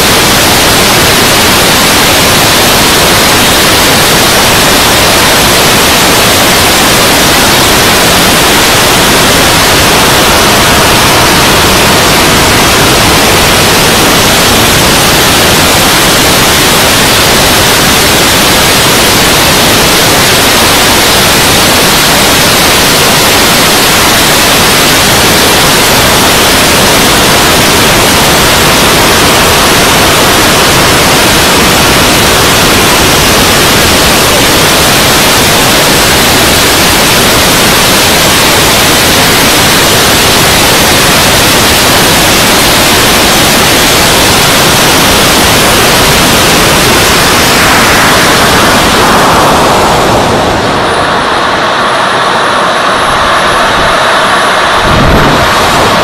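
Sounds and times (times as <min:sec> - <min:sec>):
model jet engine roar: 0:00.0 - 0:56.0.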